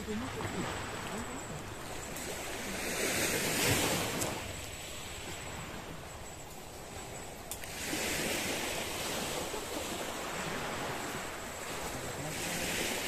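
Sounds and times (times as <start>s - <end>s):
sea surf washing onto beach: 0.0s - 13.0s.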